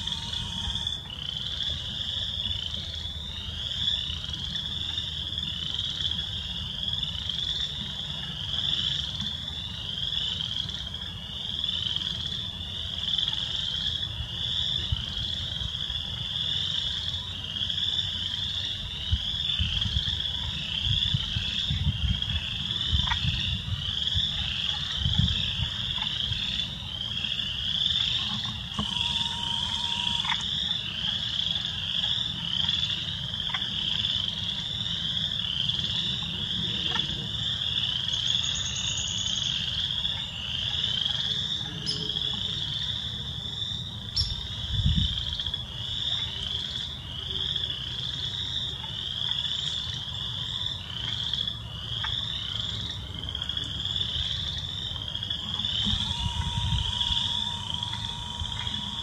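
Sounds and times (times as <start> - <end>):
chorus of frogs peeping: 0.0 - 59.0.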